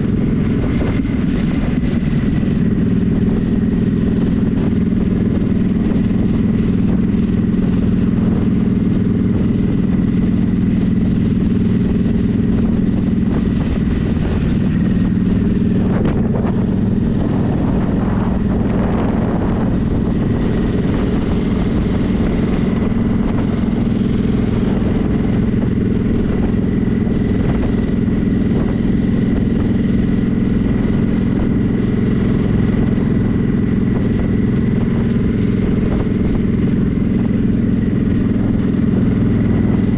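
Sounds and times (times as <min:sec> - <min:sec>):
motorcycle engine droning: 0:00.0 - 0:39.9
road and wind noise: 0:00.0 - 0:39.9.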